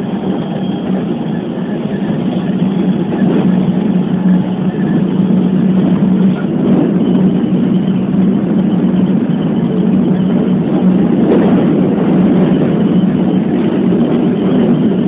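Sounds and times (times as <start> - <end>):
electric train rumble and hum: 0.0 - 15.0.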